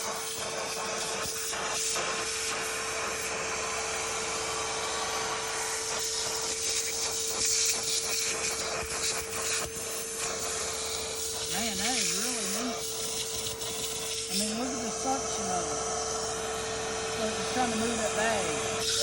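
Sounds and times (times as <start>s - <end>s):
wet dry vacuum motor whine: 0.0s - 19.0s.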